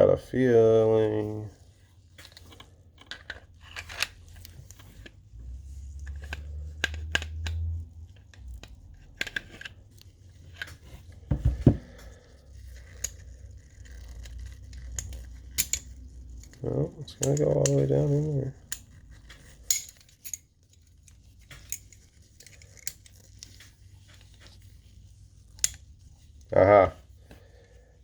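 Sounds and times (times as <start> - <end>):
pistol metal clicks and scraping: 2.1 - 26.3.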